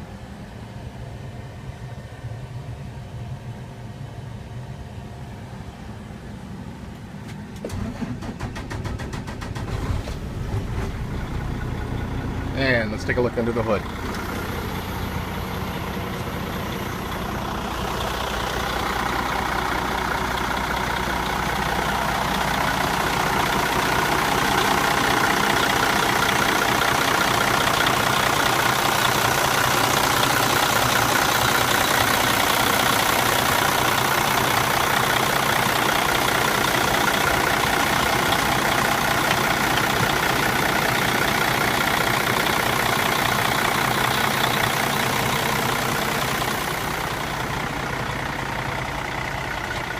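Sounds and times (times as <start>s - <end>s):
diesel truck engine idling: 4.2s - 49.9s.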